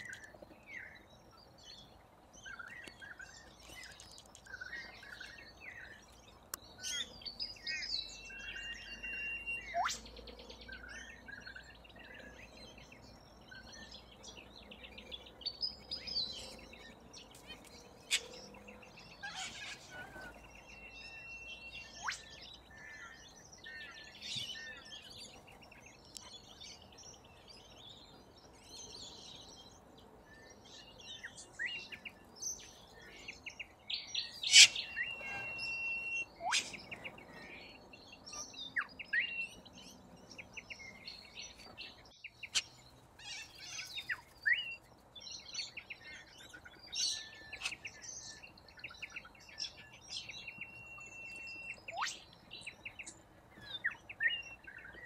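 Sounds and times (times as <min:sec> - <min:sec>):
corellas chirping and chattering: 0:00.0 - 0:55.0.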